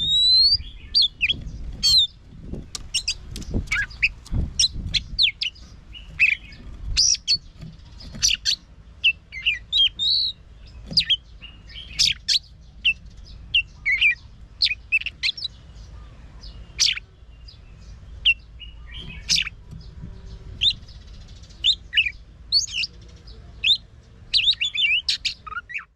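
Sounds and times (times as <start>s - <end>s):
bird singing whistles and trills: 0.0s - 25.9s.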